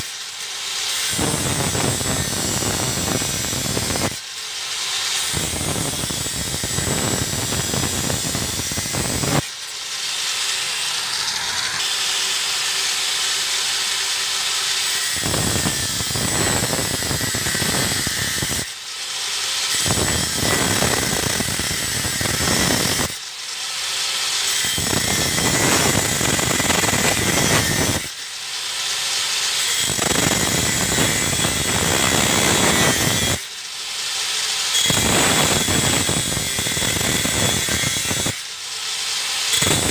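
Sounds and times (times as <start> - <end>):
angle grinder cutting steel: 0.0 - 39.9.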